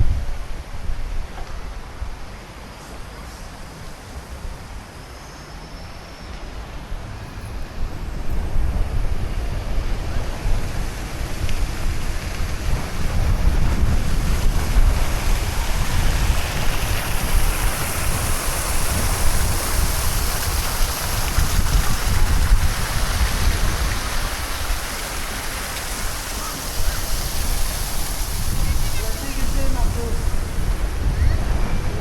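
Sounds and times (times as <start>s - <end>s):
wind buffeting microphone: 0.0s - 2.3s, 6.9s - 32.0s.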